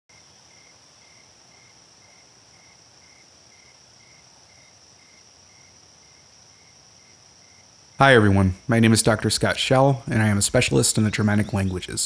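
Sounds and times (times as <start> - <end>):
cricket-like chirping: 0.1 - 12.0.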